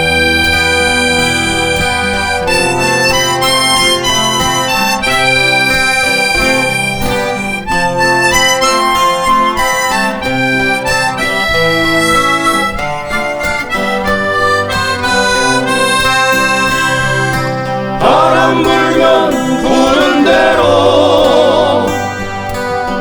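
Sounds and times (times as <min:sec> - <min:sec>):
acoustic guitars strumming: 0:00.0 - 0:23.0
sustained melody line: 0:00.0 - 0:23.0.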